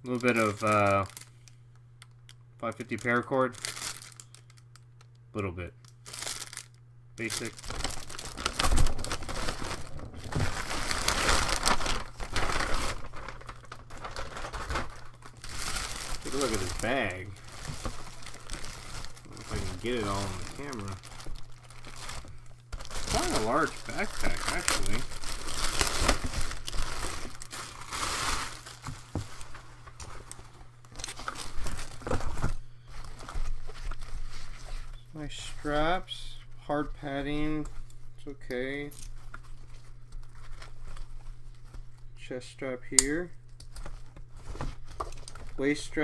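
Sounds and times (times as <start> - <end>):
packaging crinkling: 0.0 - 5.2, 5.8 - 35.0, 43.1 - 46.0.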